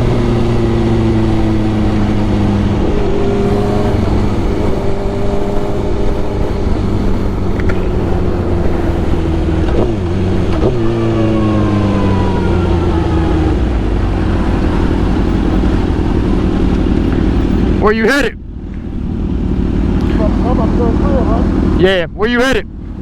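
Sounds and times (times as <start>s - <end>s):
wind rush: 0.0s - 20.0s
motorcycle engine: 0.0s - 23.0s.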